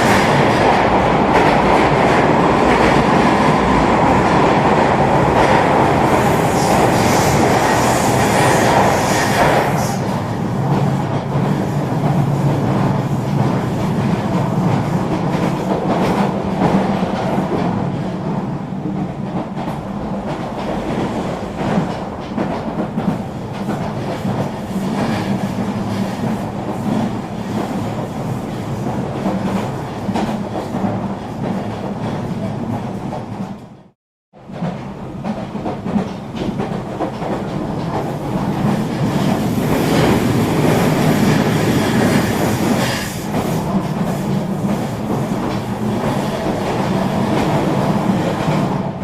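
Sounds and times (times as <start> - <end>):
train rumble and hum: 0.0 - 49.0.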